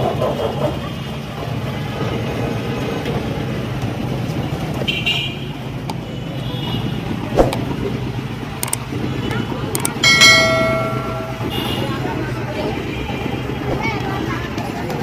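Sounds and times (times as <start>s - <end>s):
road traffic engine hum: 0.0s - 15.0s.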